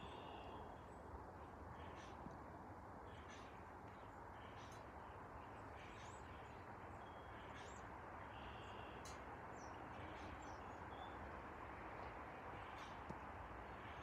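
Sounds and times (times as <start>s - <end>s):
background hiss and rumble: 0.0s - 14.0s.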